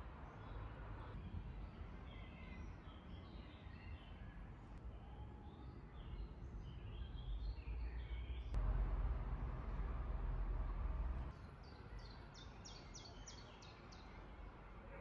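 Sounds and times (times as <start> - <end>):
songbirds chirping: 0.2 - 14.6.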